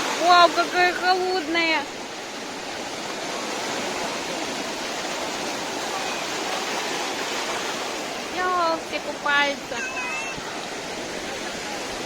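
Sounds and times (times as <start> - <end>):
surf washing onto shore: 0.0 - 12.0.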